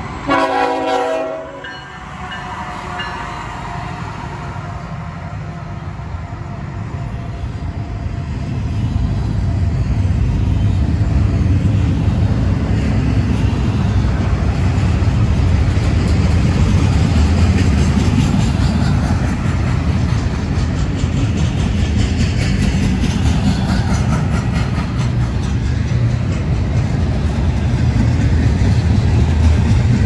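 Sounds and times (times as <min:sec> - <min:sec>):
freight train wheels rumbling on rail: 0:00.0 - 0:30.0.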